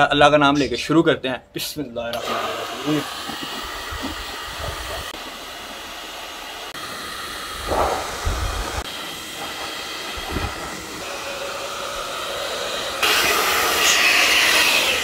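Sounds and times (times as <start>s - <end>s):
hair dryer blowing: 2.2s - 15.0s.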